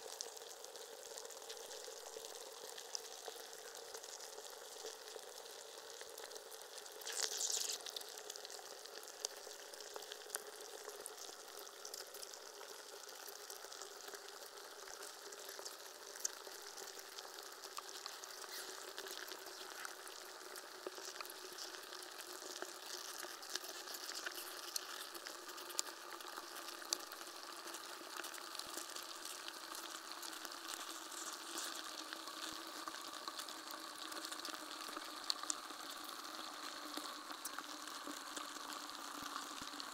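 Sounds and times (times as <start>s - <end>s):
melting ice fizzing crackle: 0.0s - 39.9s.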